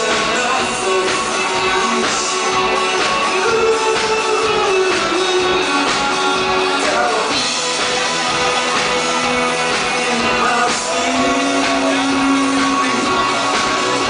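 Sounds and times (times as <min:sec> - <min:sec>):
man singing: 0:00.0 - 0:07.6, 0:09.7 - 0:14.0
drums: 0:00.0 - 0:14.0
electric guitar: 0:00.0 - 0:14.0.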